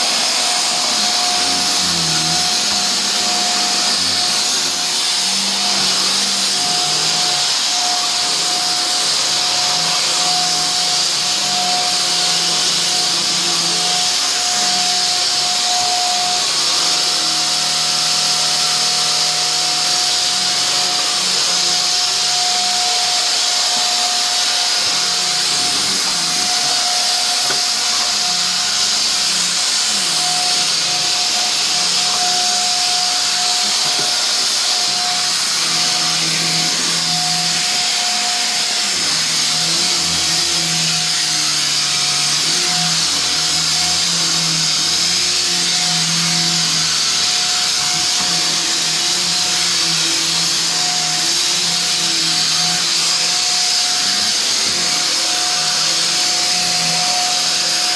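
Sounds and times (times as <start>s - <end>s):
motor whirring with high whine: 0.0s - 57.9s.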